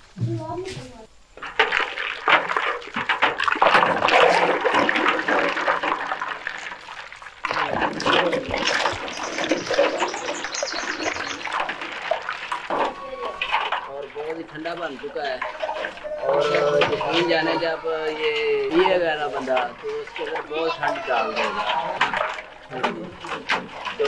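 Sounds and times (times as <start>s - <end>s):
water sloshing in a steel tub: 1.3s - 24.0s
ladle knocking and scraping tub: 1.4s - 24.0s.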